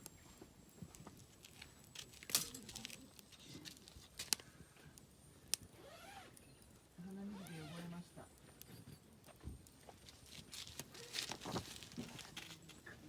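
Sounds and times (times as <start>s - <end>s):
campfire crackling and popping: 0.8s - 13.0s.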